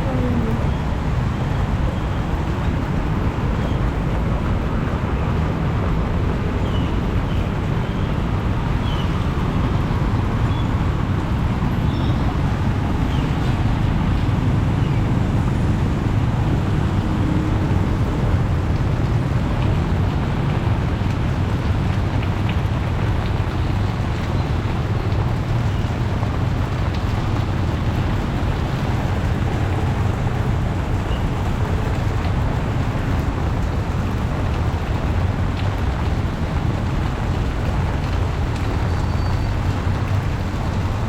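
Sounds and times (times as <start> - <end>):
heavy rain pouring: 0.0 - 41.0
road traffic rumble: 0.0 - 41.0.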